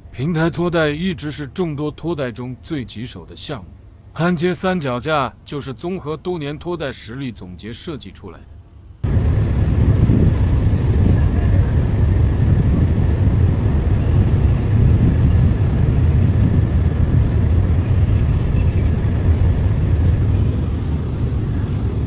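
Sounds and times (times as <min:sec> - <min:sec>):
tugboat diesel engines rumbling: 0:00.0 - 0:22.0.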